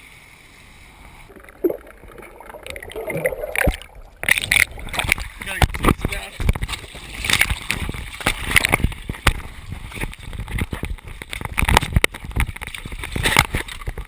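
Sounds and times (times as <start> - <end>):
seawater sloshing and splashing: 1.3 - 14.0.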